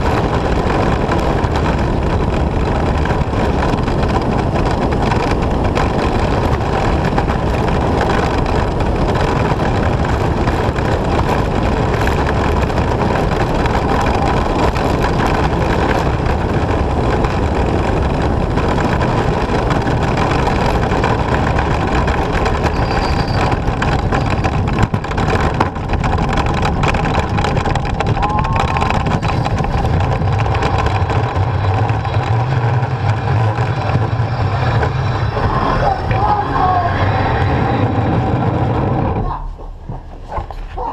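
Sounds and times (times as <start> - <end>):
rush of wind: 0.0 - 40.9
sled runners rumbling on ice: 0.0 - 40.9.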